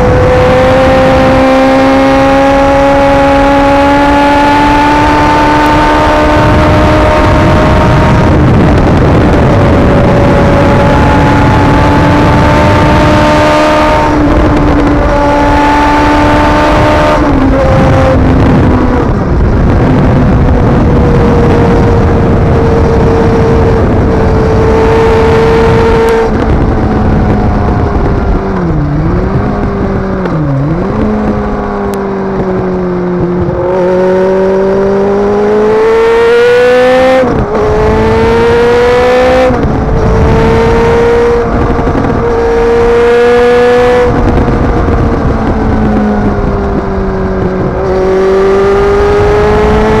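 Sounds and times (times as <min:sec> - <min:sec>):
motorcycle engine revving: 0:00.0 - 0:50.0
wind noise: 0:00.0 - 0:50.0.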